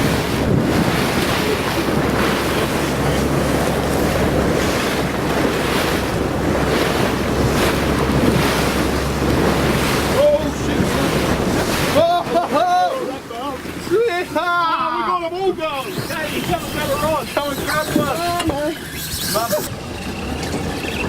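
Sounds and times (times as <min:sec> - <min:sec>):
sea water washing against boat: 0:00.0 - 0:21.0
wind buffeting microphone: 0:00.0 - 0:21.0.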